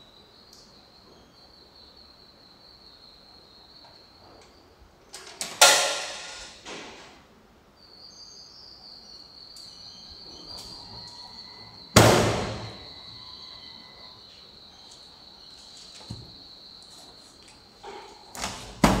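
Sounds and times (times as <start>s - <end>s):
faint high whine: 0.0s - 6.7s, 7.5s - 18.6s.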